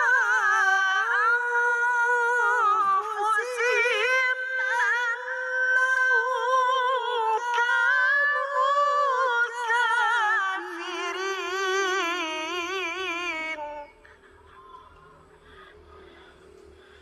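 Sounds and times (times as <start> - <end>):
young man chanting melodically: 0.0 - 16.4.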